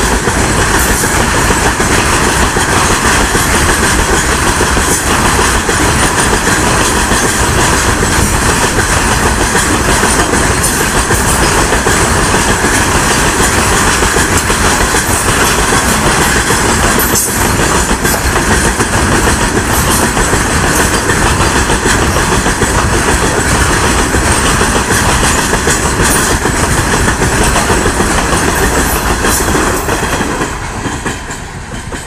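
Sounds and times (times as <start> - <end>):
freight train rushing past: 0.0 - 32.0
wheels clattering over rail joints: 0.0 - 32.0.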